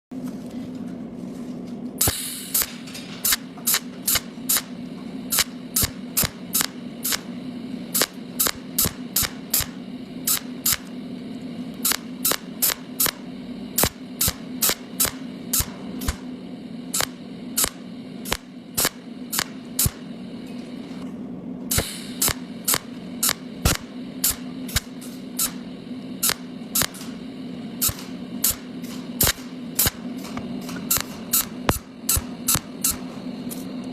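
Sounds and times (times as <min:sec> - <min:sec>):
welding arc hum with clicks: 0:00.1 - 0:33.9.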